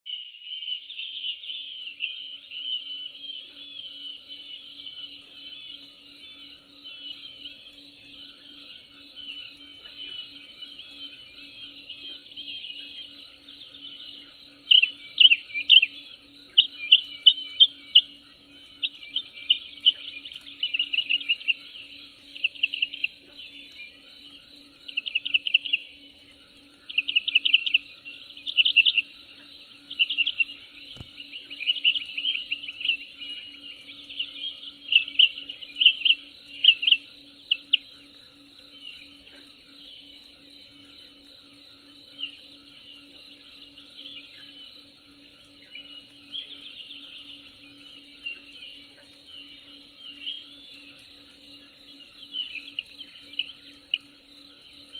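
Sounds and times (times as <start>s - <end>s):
birds chirping in trills: 0.1s - 54.9s
high insect drone: 0.9s - 54.9s
faint low pulsing buzz: 1.4s - 54.9s.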